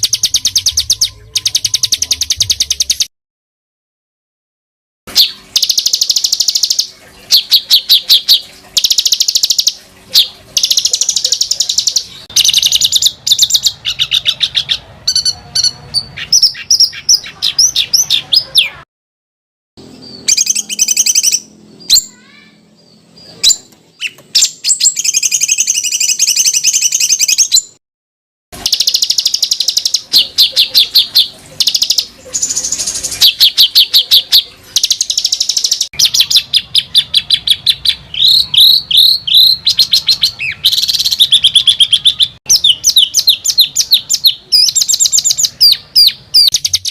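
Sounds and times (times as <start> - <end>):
songbird trilling song: 0.0 - 3.1, 5.1 - 18.8, 19.8 - 27.8, 28.6 - 46.9.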